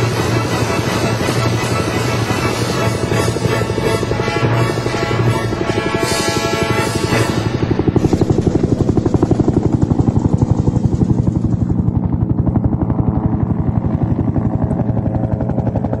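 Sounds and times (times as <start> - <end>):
helicopter rotor beating: 0.0 - 16.0.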